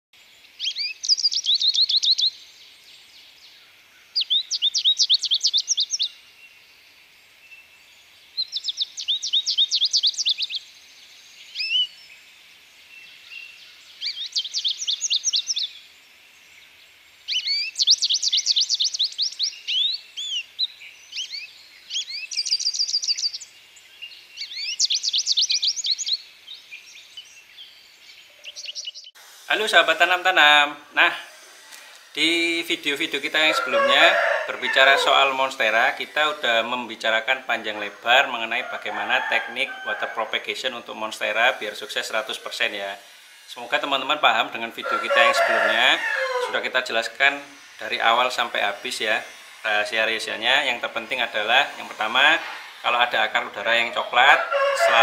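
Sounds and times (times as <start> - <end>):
songbird singing: 0.2 - 55.0.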